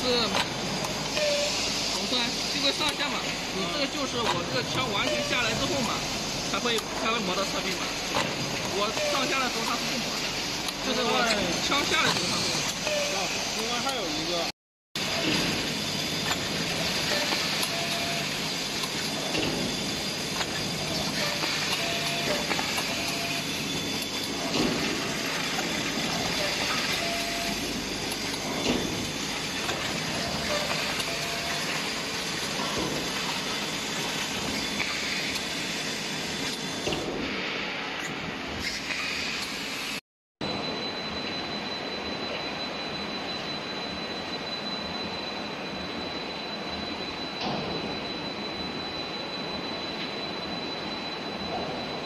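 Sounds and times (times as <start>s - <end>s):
factory machinery running: 0.0s - 52.0s.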